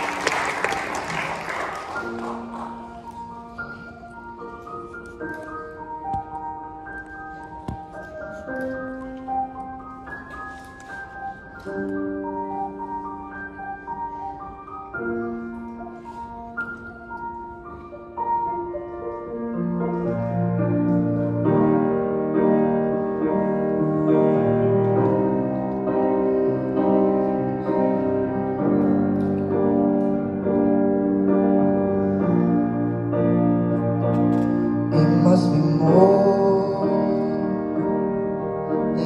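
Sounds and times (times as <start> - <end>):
grand piano chords: 0.0 - 39.0.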